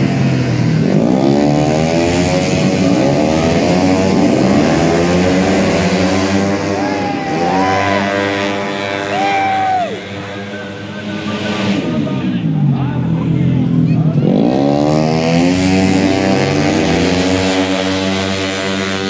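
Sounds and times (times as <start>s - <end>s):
scooter passing by: 0.0s - 12.4s, 13.8s - 19.0s
scooter engines revving: 0.0s - 19.0s.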